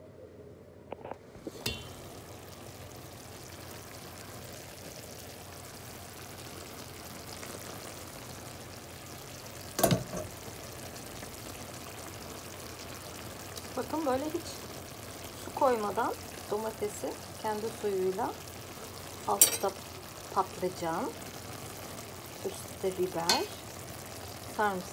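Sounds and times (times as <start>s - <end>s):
vegetables sizzling in a pot: 1.4s - 24.9s.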